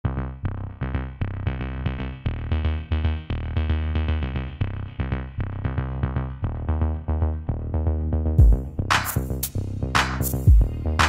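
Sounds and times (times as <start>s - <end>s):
electronic music with bass: 0.0s - 11.0s.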